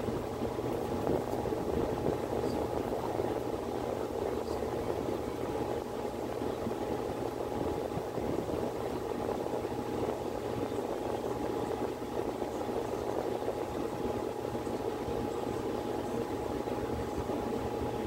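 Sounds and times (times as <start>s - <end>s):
faint steady whine: 0.0s - 18.0s
furnace rushing hum: 0.0s - 18.0s.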